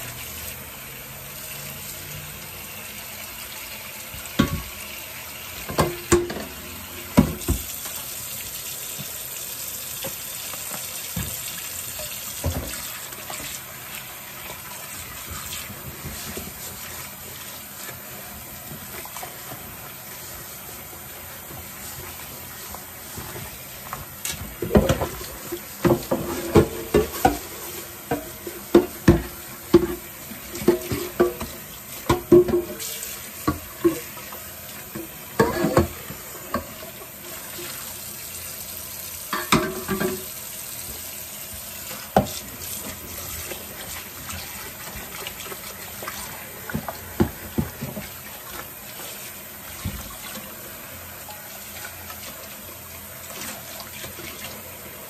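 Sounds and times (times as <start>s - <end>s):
tap water running into sink: 0.0s - 55.0s.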